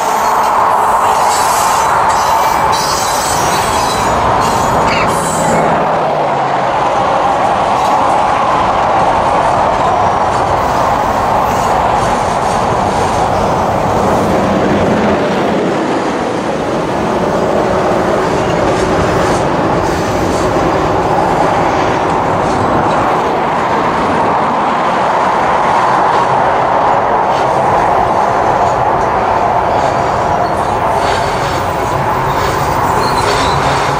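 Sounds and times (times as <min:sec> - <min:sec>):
steel wheels rumbling on rail: 0:00.0 - 0:33.9.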